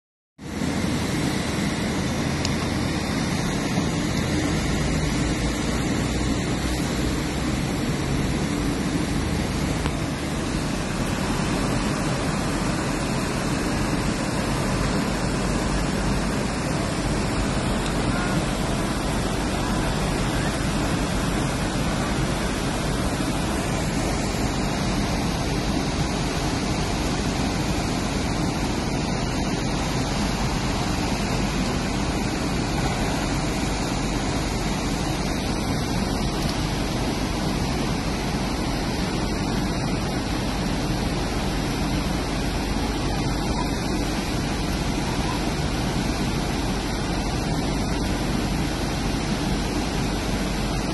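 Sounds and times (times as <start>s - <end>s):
torrential rain: 0.4s - 50.9s.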